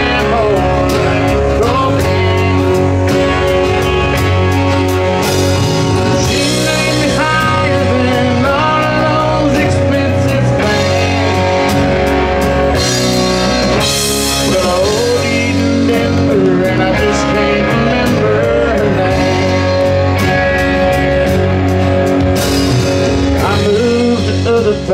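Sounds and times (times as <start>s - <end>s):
acoustic guitar: 0.0s - 24.9s
bass guitar: 0.0s - 24.9s
drums: 0.0s - 24.9s
electric guitar lead: 0.0s - 24.9s.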